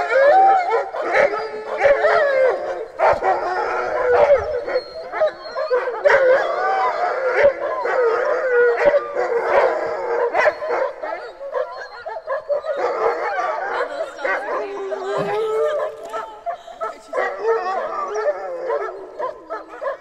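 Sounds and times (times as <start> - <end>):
dogs howling and yipping: 0.0 - 20.0.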